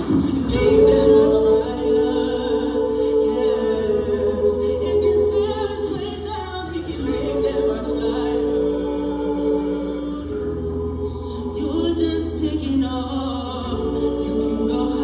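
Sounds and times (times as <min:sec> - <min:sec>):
choir holding chords: 0:00.0 - 0:15.0.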